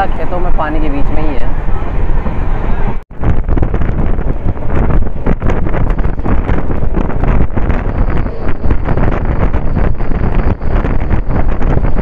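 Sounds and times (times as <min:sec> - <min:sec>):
train running noise: 0:00.0 - 0:12.0
wind buffeting a microphone: 0:00.0 - 0:12.0.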